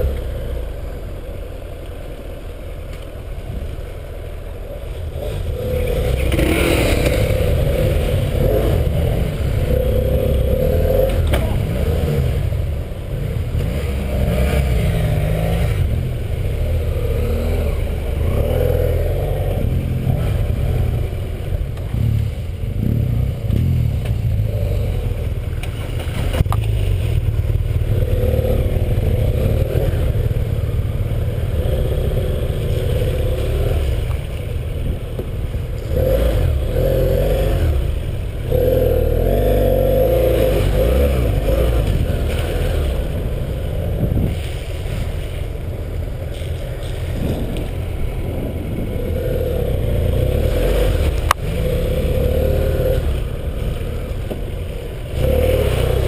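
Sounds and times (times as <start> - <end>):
motorcycle engine revving: 4.7 - 56.0.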